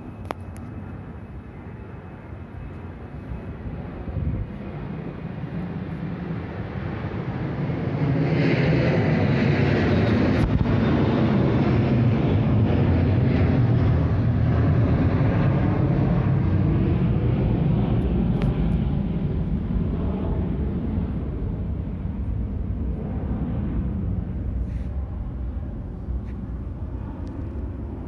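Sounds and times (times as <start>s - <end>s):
airplane engine rumbling overhead: 0.0s - 28.0s.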